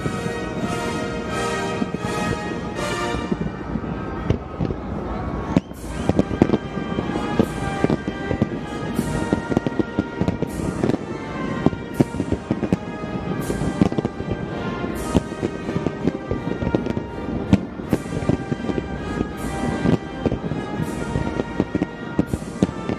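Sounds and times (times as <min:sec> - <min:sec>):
music playing: 0:00.0 - 0:04.3, 0:05.7 - 0:22.9
fireworks bangs: 0:00.0 - 0:22.9
fireworks crackling hiss: 0:00.0 - 0:22.9.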